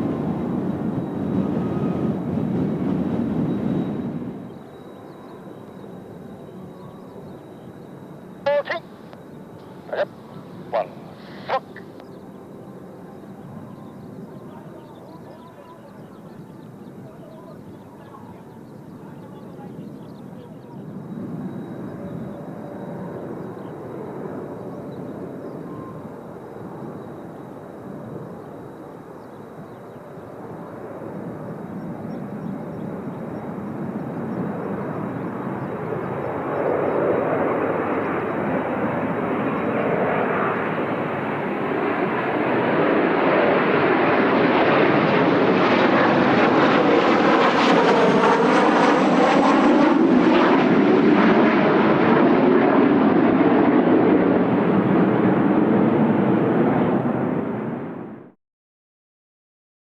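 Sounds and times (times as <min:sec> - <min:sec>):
jet aircraft passing overhead: 0:00.0 - 0:58.4.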